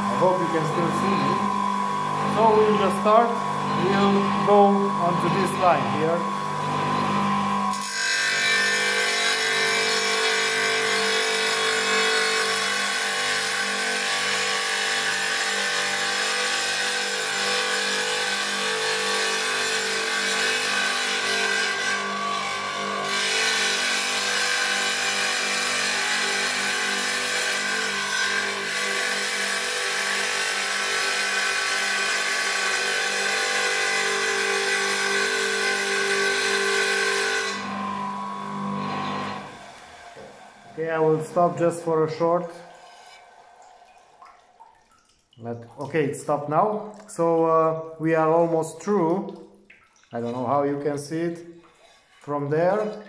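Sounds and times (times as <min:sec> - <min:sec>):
tile saw cutting tile: 0:00.0 - 0:43.4.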